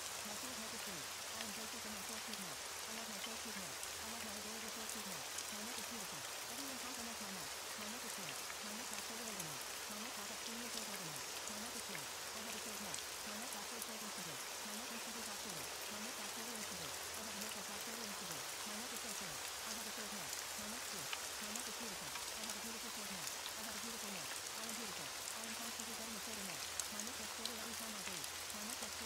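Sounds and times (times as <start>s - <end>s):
faint layered spoken voices: 0.0s - 29.0s
steady rain: 0.0s - 29.0s.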